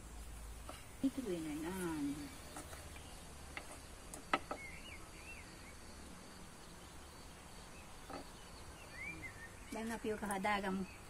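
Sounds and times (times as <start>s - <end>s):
faint background noise: 0.0s - 11.0s
bird chirping: 1.0s - 11.0s.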